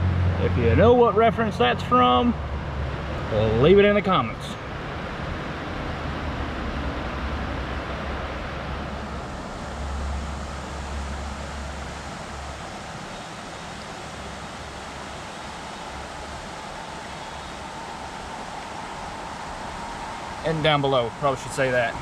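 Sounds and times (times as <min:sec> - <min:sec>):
passing vehicle rumble: 0:00.0 - 0:22.0
river water rushing: 0:00.0 - 0:22.0.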